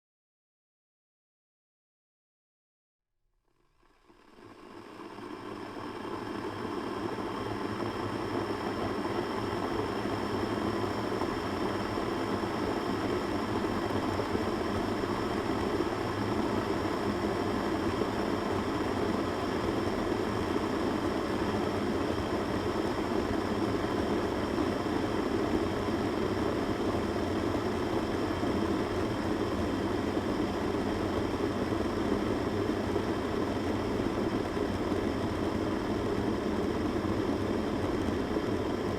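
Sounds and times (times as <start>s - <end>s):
electric kettle boiling: 3.5s - 38.9s.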